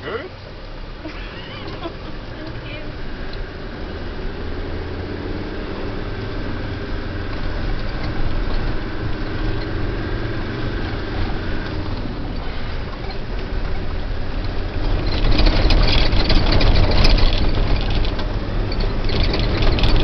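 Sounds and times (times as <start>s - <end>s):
car engine driving on gravel: 0.0s - 20.0s.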